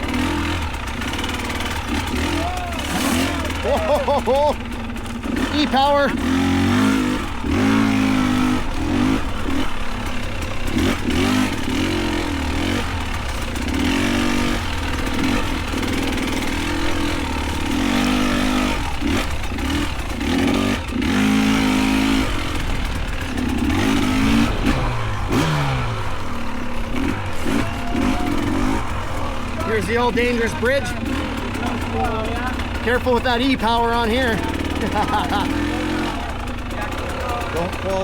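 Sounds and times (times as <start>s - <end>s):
bike clattering over rough ground: 0.0s - 38.0s
dirt bike engine revving: 0.0s - 38.0s.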